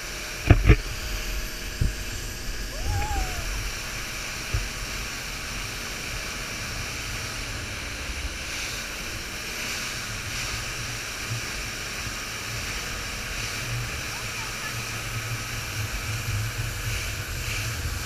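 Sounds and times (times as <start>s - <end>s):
motorboat rushing through water: 0.0s - 18.0s.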